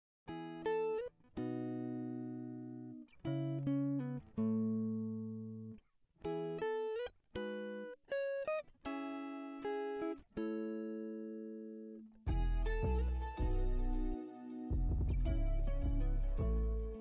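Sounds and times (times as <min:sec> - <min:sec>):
guitar plucking notes and chords: 0:00.3 - 0:17.0.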